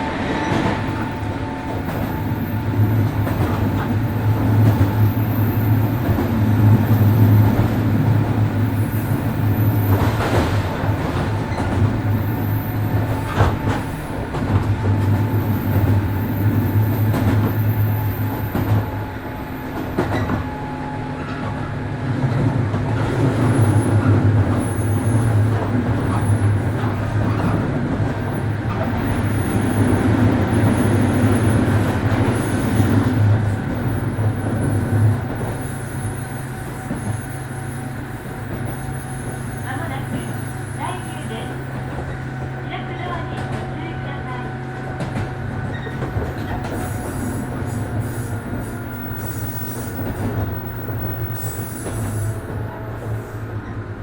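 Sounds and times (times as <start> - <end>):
electric train droning: 0.0 - 54.0.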